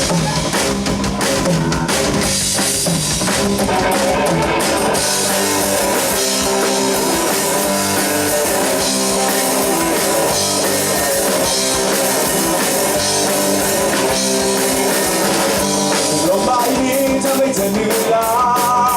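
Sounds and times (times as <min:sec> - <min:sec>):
rock band playing instrumental: 0:00.0 - 0:18.9.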